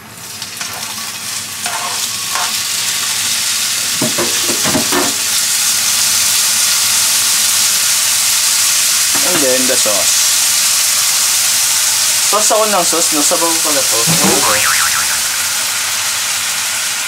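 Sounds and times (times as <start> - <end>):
chicken sizzling in pan: 0.0 - 17.0.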